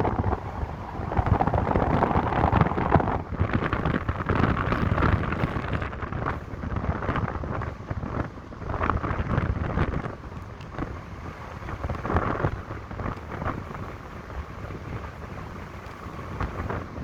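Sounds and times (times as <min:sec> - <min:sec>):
low uneven rumble: 0:00.0 - 0:17.0
wind buffeting microphone: 0:00.0 - 0:17.0.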